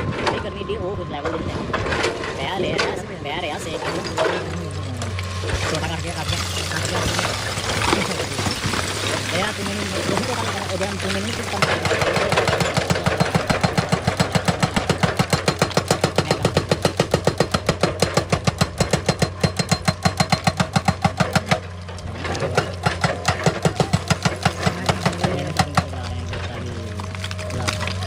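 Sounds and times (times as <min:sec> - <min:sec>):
excavator engine running: 0:00.0 - 0:28.0
hydraulic rock breaker hammering: 0:00.0 - 0:28.0.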